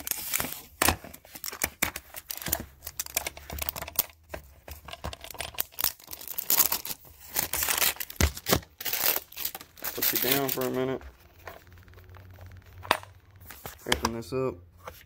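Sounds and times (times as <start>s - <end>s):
plastic packaging crinkling: 0.0s - 13.8s.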